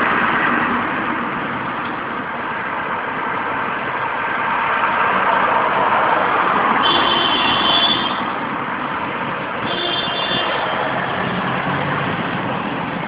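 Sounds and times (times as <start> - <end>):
loud engine-like drone: 0.0 - 13.0.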